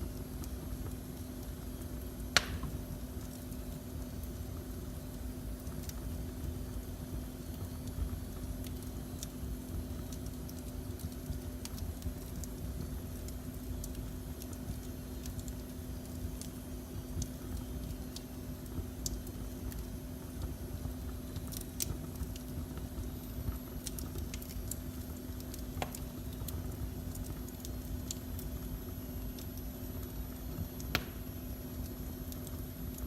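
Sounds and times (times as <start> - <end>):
faint steady hum: 0.0 - 33.0
fire crackling and popping: 0.0 - 33.0.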